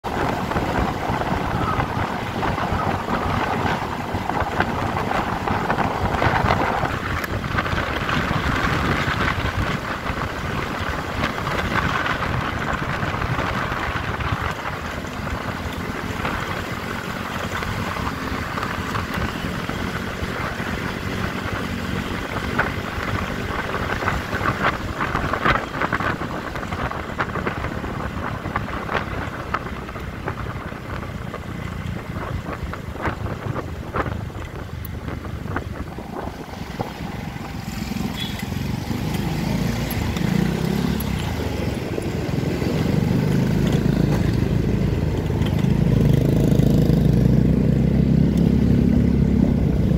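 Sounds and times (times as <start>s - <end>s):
tyre and road noise: 0.0s - 49.9s
wind buffeting microphone: 0.0s - 49.9s
scooter engine running: 0.1s - 49.9s.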